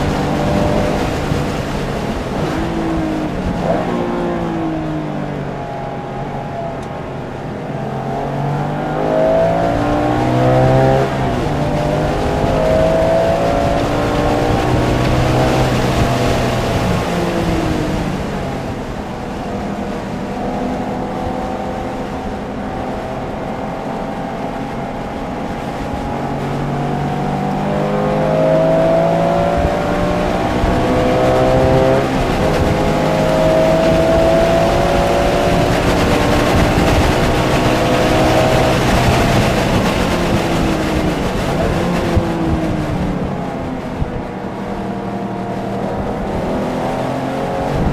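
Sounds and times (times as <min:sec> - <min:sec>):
car engine through gears: 0:00.0 - 0:47.9.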